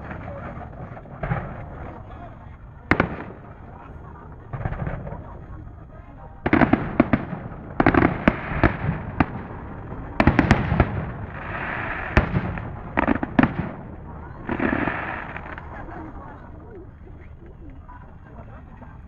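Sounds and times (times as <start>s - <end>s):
fireworks hissing crackle: 0.0s - 5.6s, 6.4s - 16.6s
fireworks bursts and cracks: 0.0s - 17.0s
low rumble: 0.0s - 17.1s.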